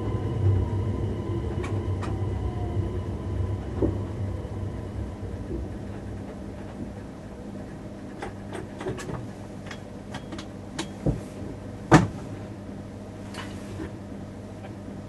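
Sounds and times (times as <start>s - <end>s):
low hum of train equipment: 0.0s - 15.0s.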